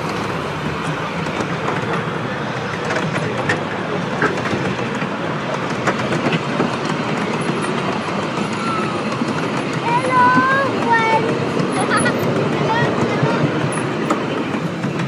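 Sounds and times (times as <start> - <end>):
railway carriages rolling: 0.0 - 15.0
wheels clicking on rails: 0.0 - 15.0.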